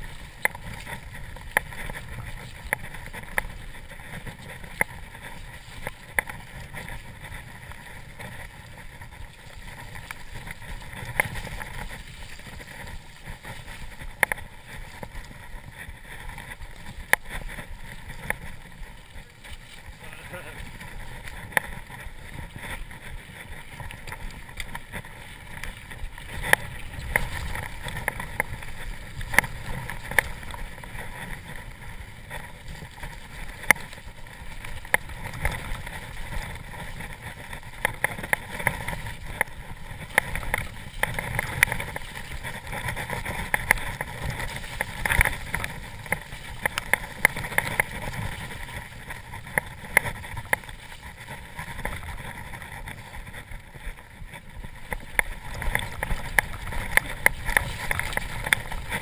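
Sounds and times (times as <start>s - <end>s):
bike rattling over bumps: 0.0s - 59.0s
tyres rumbling on rough trail: 0.0s - 59.0s.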